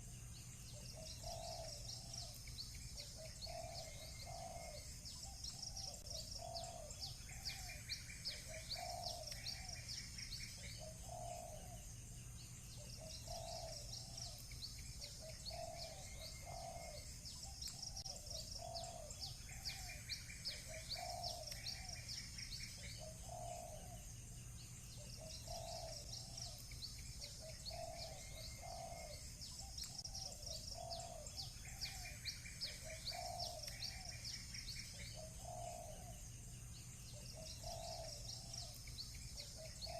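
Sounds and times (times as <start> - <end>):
small birds chirping: 0.0 - 39.9
steady low hum: 0.0 - 39.9
doves cooing: 0.7 - 11.9, 12.8 - 24.1, 25.0 - 36.3, 37.1 - 39.9.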